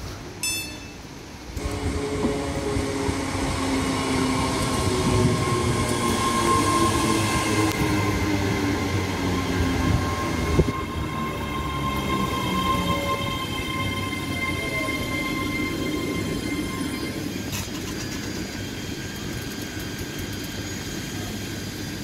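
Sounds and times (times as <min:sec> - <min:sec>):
train running noise: 0:00.0 - 0:22.0
electric train whine: 0:00.5 - 0:22.0.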